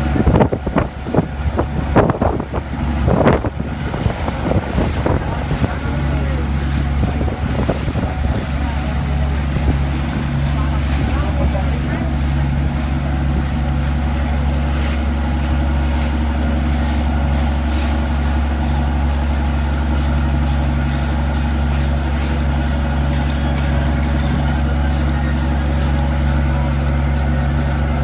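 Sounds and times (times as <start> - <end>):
large engine humming: 0.0 - 28.0.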